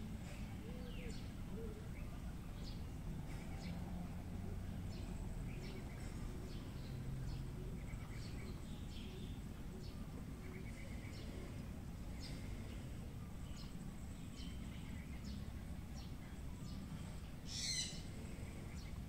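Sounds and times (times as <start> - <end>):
birds chirping: 0.0 - 19.0
low outdoor rumble: 0.0 - 19.0.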